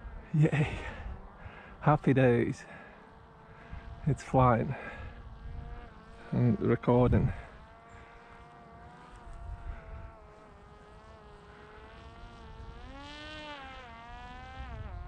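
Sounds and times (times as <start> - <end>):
drone propeller buzzing: 0.0 - 15.0.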